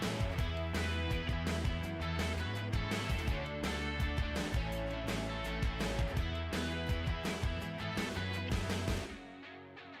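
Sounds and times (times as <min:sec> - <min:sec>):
music with guitar and drums: 0:00.0 - 0:10.0.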